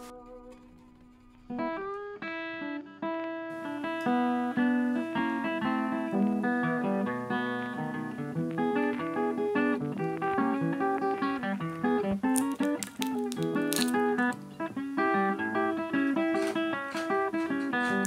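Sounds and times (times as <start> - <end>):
plucked acoustic guitar: 0.0 - 18.0.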